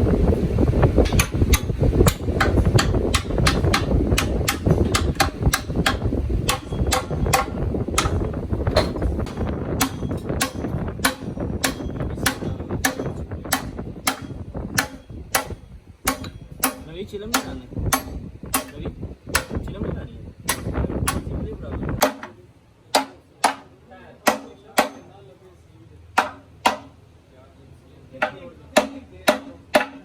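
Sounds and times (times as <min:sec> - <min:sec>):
hammer striking metal: 0:01.0 - 0:19.7, 0:20.5 - 0:21.3, 0:22.0 - 0:25.2, 0:26.2 - 0:27.0, 0:28.2 - 0:30.0.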